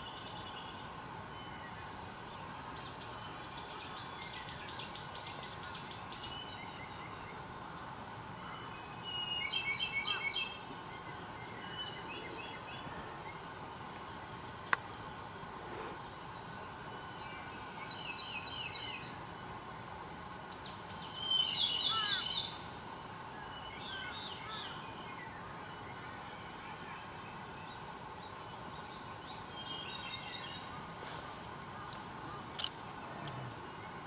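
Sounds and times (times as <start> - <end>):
faint steady hum: 0.0 - 34.0
songbirds singing: 0.0 - 34.0.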